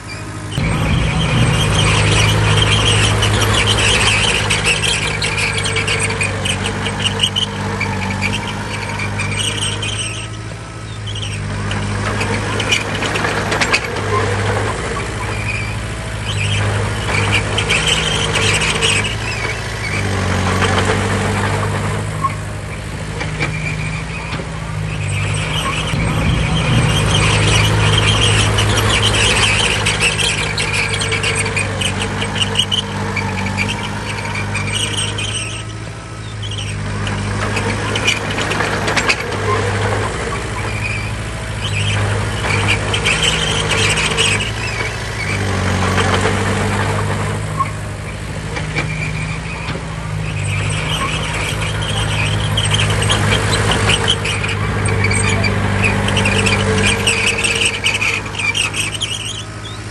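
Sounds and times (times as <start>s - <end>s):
diesel engine running: 0.0s - 59.9s
high metallic squealing: 0.0s - 59.9s.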